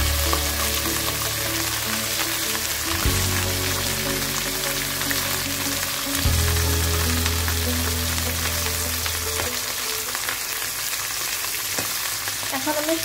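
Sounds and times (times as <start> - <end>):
music with long low notes: 0.0 - 10.6
fish sizzling in frying oil: 0.0 - 13.0.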